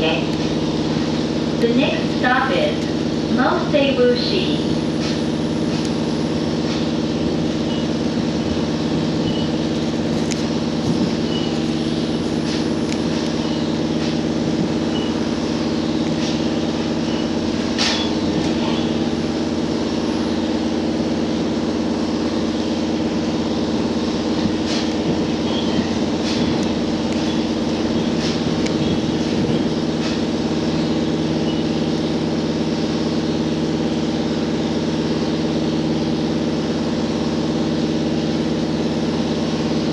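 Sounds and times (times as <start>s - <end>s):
diesel railcar engine hum: 0.0s - 39.9s
train wheels clicking on rails: 0.0s - 39.9s.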